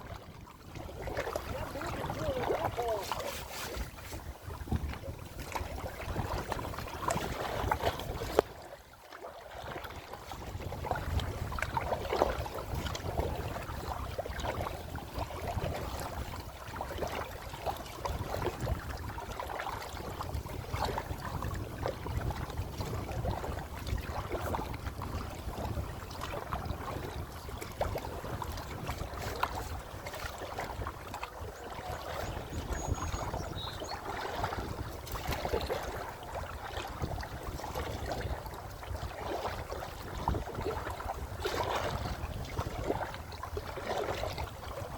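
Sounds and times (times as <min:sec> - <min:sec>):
wind buffeting microphone: 0:00.0 - 0:08.7, 0:09.6 - 0:44.9
paddle splashes: 0:00.0 - 0:44.9
water sloshing against hull: 0:00.0 - 0:44.9.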